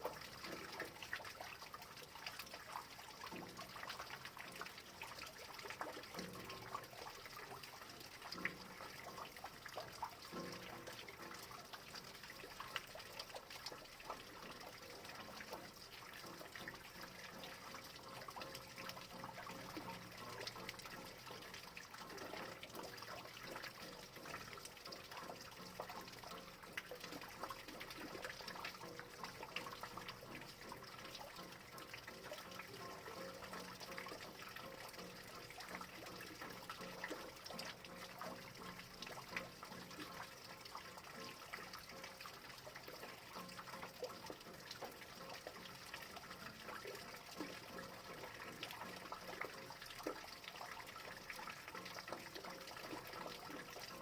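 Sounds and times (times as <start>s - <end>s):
raindrops ticking: 0.0s - 54.0s.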